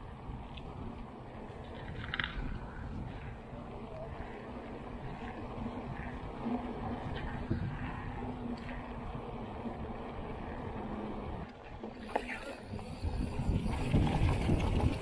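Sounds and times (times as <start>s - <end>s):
faint steady hum: 0.0s - 14.8s
bike tyres rolling on trail: 0.0s - 15.0s
wind rumble on microphone: 0.0s - 15.0s.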